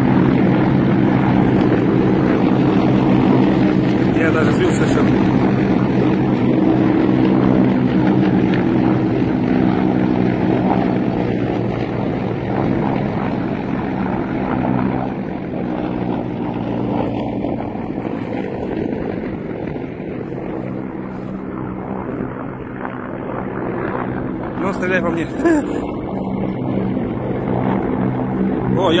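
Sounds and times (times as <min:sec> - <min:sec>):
helicopter rotor and engine hum: 0:00.0 - 0:29.0.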